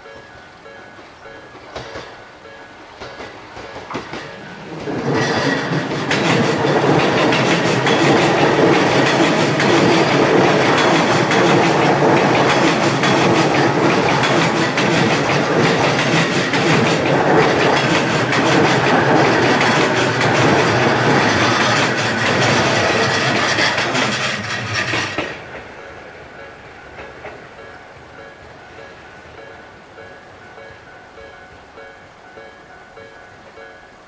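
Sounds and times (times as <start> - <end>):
electric train rumbling past: 0.0 - 34.0
wheels clattering over rail joints: 1.0 - 29.4.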